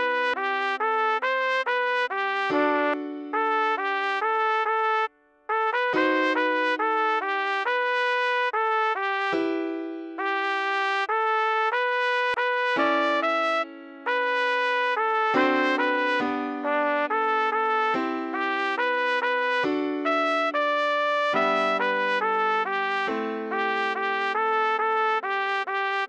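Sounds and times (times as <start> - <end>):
trumpet melody: 0.0 - 26.0.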